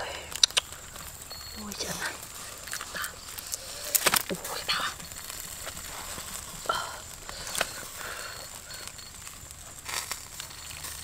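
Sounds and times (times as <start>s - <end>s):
knocks and rustles in wicker basket: 0.7s - 11.0s.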